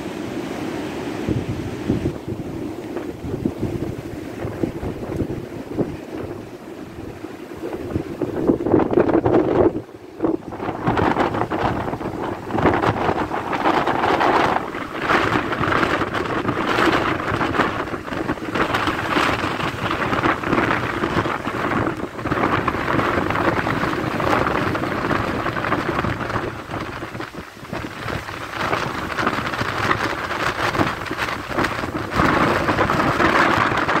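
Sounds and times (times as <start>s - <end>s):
heavy surf breaking: 0.0s - 34.0s
wind gusting against microphone: 0.0s - 34.0s.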